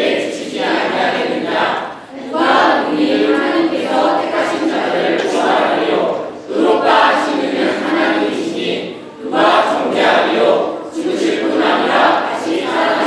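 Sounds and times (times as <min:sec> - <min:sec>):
group reciting in unison: 0:00.0 - 0:13.0.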